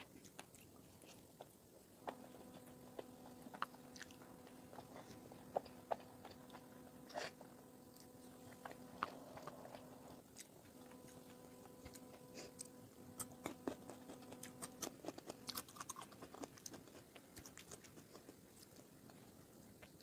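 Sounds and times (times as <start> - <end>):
faint steady hum: 0.0 - 20.0
wet chewing and mouth clicks: 0.0 - 20.0.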